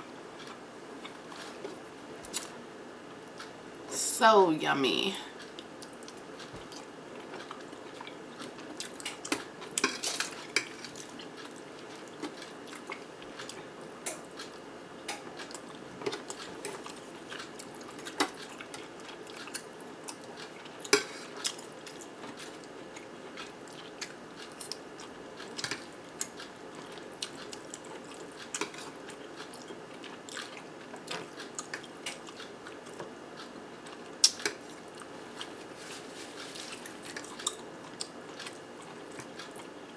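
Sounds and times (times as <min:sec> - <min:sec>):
soft chewing: 0:00.2 - 0:03.6, 0:05.3 - 0:39.9.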